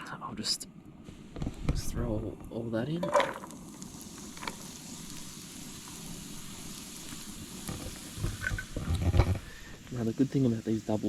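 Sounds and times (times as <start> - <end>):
onion sizzling in oil: 1.8 - 11.0.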